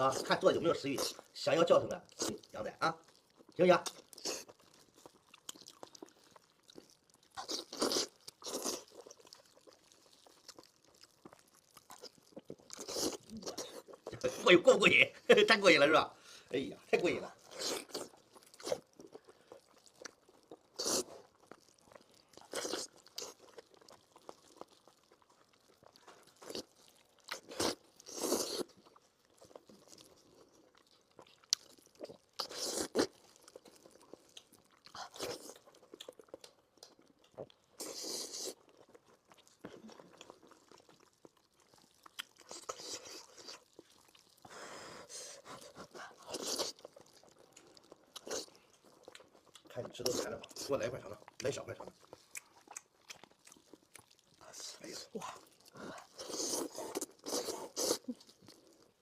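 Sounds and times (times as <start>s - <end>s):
person chewing food: 0.0s - 15.0s, 16.3s - 59.0s.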